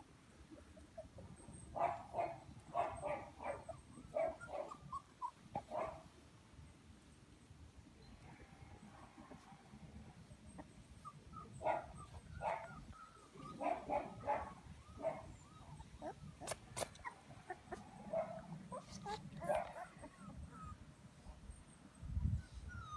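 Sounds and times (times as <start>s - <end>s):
puppies yipping and whining: 0.4s - 6.2s, 8.0s - 22.9s.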